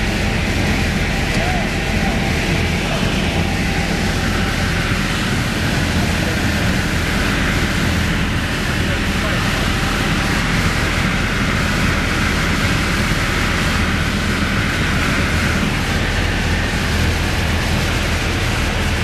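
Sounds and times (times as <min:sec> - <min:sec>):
light aircraft engine droning: 0:00.0 - 0:19.0.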